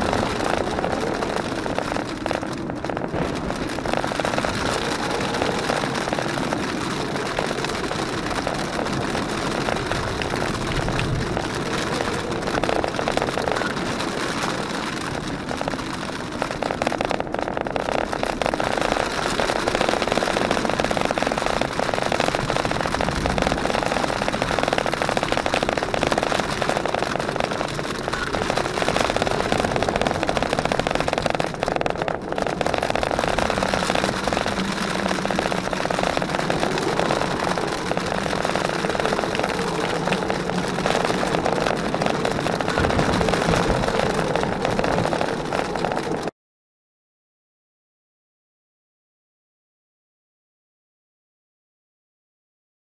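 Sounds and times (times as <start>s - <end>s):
tyre and road noise on gravel: 0.0s - 46.3s.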